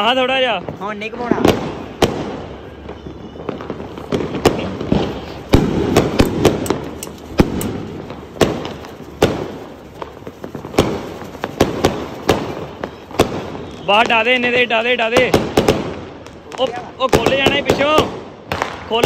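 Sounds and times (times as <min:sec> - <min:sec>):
firecracker crackling: 0:00.0 - 0:19.0
firecrackers banging: 0:00.0 - 0:19.0.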